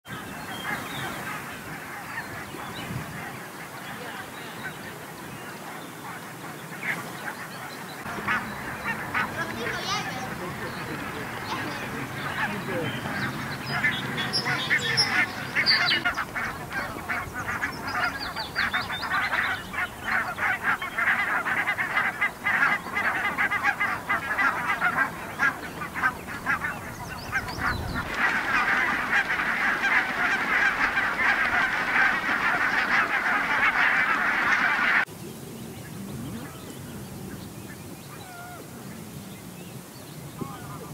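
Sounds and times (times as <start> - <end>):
flock of geese calling: 0.1 - 35.1, 37.7 - 39.2, 40.3 - 40.9.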